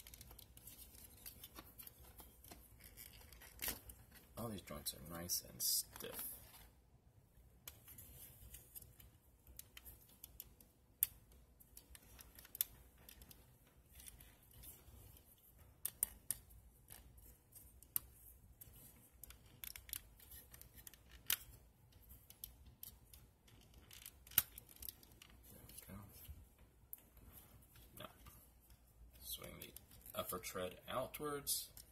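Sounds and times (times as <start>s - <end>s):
soft handling rustle: 0.0s - 6.8s, 7.7s - 10.7s, 11.6s - 31.9s.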